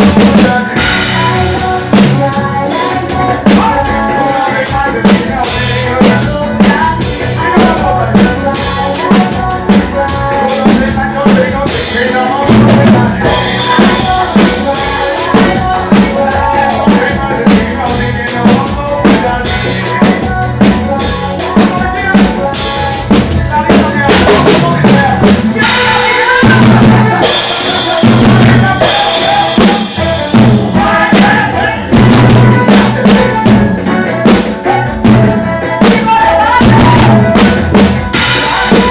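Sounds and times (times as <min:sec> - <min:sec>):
drum kit beat: 0:00.0 - 0:38.9
live band music: 0:00.0 - 0:38.9.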